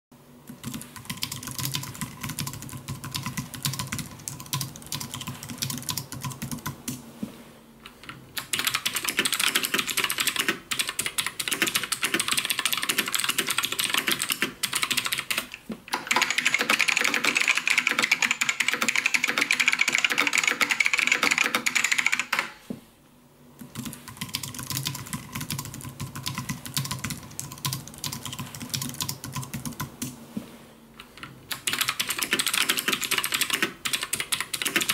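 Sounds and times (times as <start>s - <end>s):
typing on computer keyboard: 0.5s - 7.0s, 8.0s - 22.5s, 23.6s - 30.1s, 31.5s - 34.9s.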